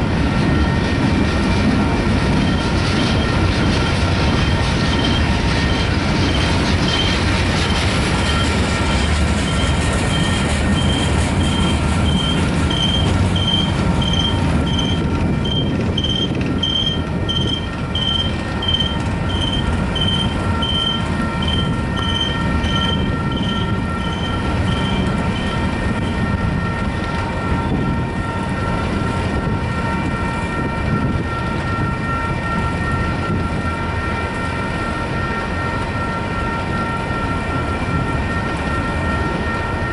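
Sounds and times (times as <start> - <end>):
crossing bell ringing: 0.0 - 39.9
freight train rolling past: 0.0 - 39.9
train wheels squealing: 0.0 - 39.9.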